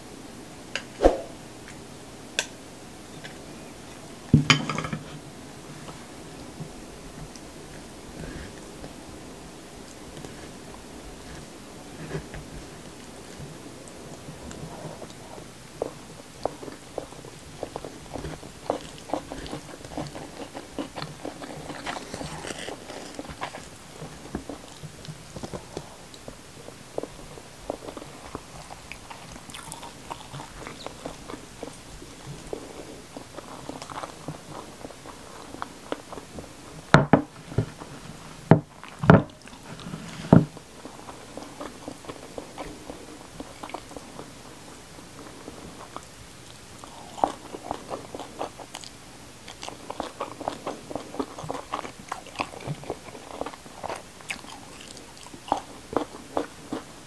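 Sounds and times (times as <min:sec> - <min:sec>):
chewing and crunching food: 0:04.8 - 0:57.0.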